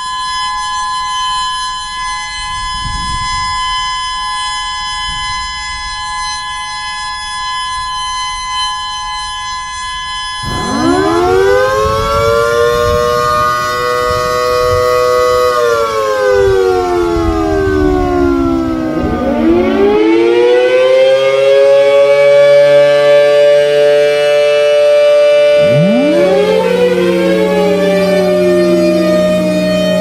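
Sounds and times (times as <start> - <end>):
siren wailing: 0.0 - 30.0.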